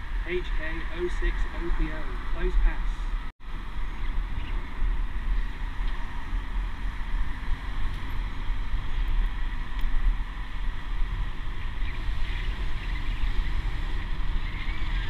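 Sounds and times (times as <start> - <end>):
road and traffic noise: 0.0 - 15.0
wind rumbling on microphone: 0.0 - 15.0.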